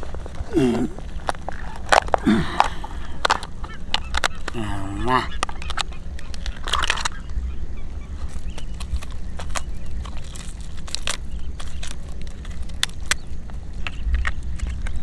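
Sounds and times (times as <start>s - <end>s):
crab shells cracking: 0.0s - 7.4s, 8.1s - 15.0s
low rumble: 0.0s - 15.0s.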